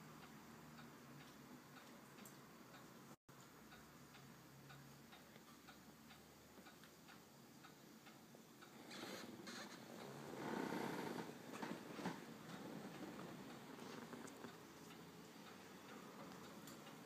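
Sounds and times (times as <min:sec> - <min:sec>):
faint ticking: 0:00.0 - 0:17.0.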